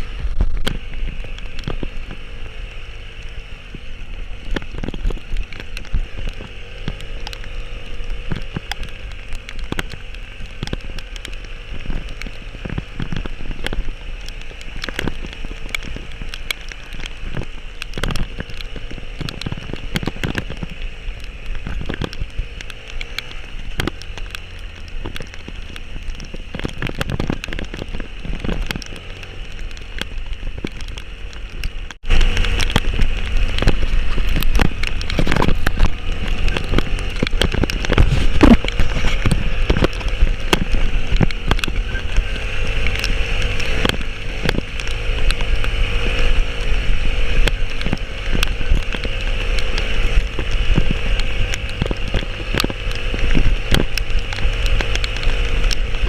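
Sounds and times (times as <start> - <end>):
heavy rain: 0.0 - 56.0
wind and road noise rumble: 0.0 - 56.0.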